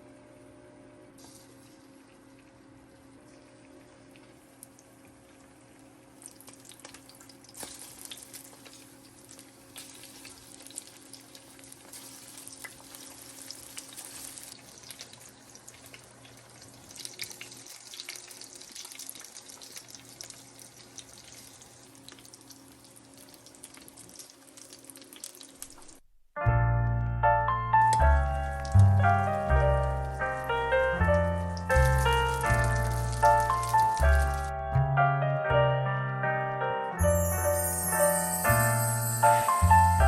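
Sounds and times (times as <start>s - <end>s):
crackling hiss of cooking: 1.1s - 26.0s, 27.9s - 34.5s, 37.2s - 40.0s.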